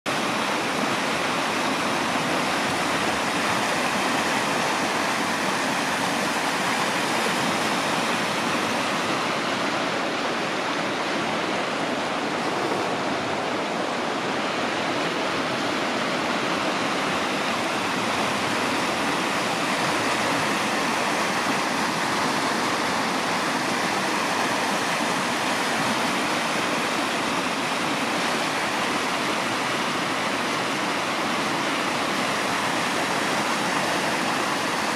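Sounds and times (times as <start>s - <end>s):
river flowing over rocks: 0.1s - 34.9s.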